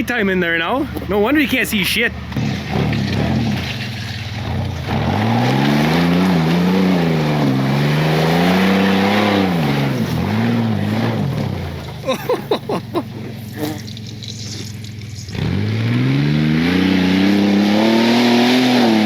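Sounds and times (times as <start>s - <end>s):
truck engine revving: 2.1s - 19.0s.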